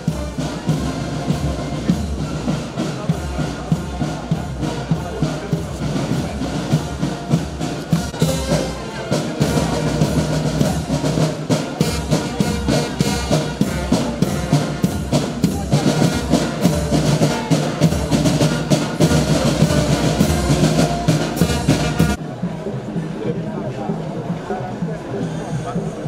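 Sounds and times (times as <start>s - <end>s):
marching band playing: 0.0s - 25.9s
side drums and bass drum: 0.0s - 26.0s.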